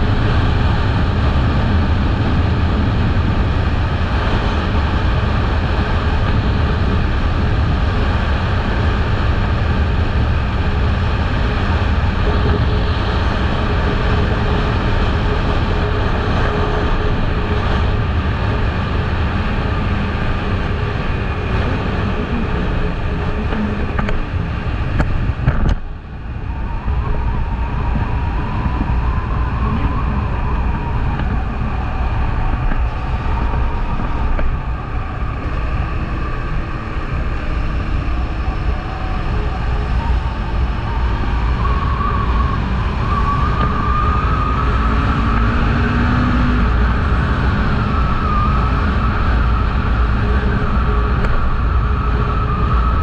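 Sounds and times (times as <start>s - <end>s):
thin wavering whine: 0.0s - 53.0s
wind rushing over microphone: 0.0s - 53.0s.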